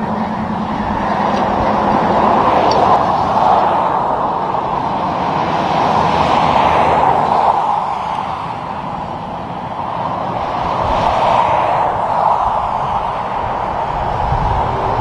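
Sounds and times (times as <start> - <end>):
highway traffic rushing: 0.0 - 15.0.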